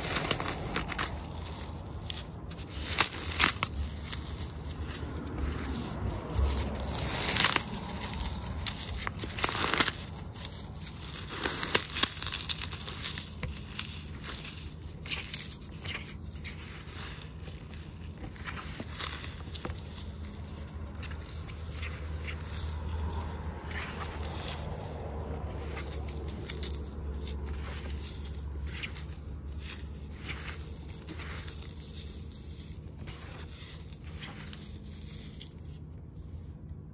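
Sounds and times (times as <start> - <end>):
dry foam crunching: 0.0 - 36.9.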